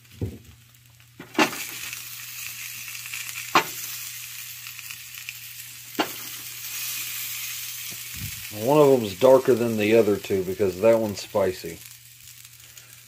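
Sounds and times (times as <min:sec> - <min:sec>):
butter sizzling on a pan: 0:00.0 - 0:13.0.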